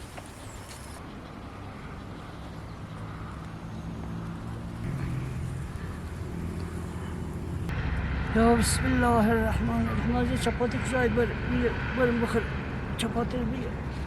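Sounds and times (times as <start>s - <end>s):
low engine hum: 0.4s - 14.0s.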